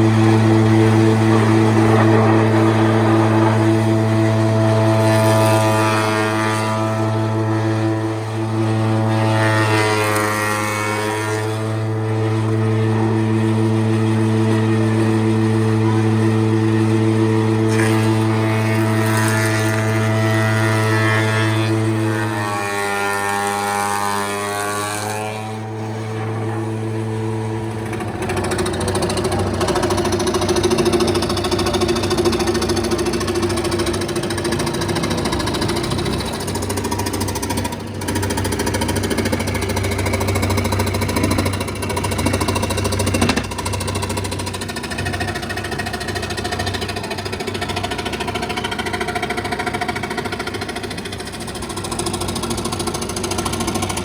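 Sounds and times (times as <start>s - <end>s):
power tool motor whine: 0.0s - 54.0s.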